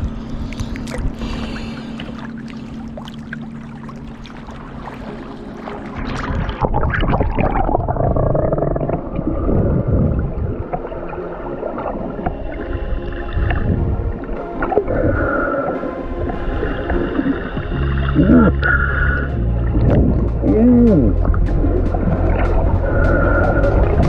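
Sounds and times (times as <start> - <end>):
muffled underwater gurgling: 0.0 - 24.0
water lapping and splashing: 0.0 - 24.0.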